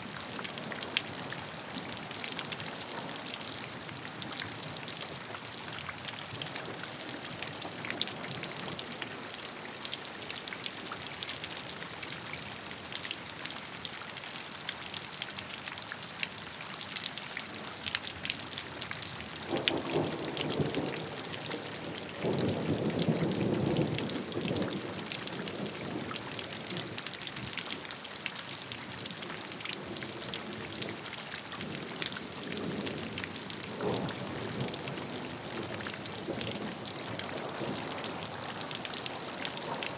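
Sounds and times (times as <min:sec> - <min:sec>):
rain drops ticking: 0:00.1 - 0:39.9.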